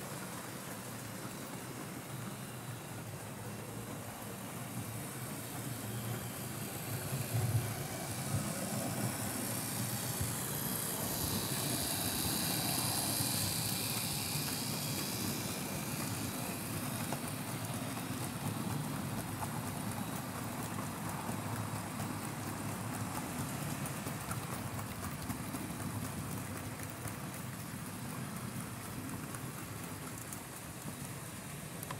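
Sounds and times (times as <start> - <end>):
model train wheels rattling: 0.0 - 31.9.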